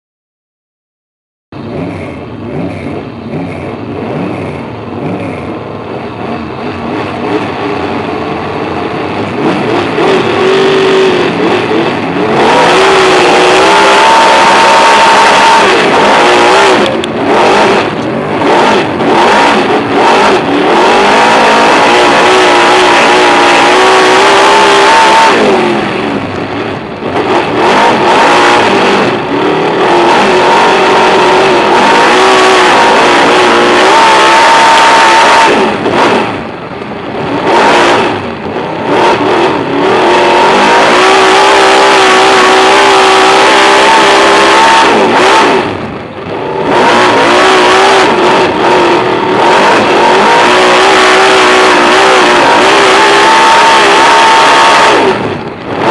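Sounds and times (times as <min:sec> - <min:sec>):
race car engine revving: 0:01.6 - 0:55.9.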